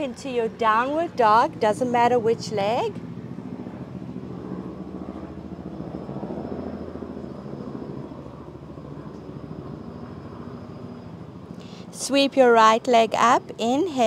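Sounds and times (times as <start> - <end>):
distant low engine rumble: 0.0 - 14.0.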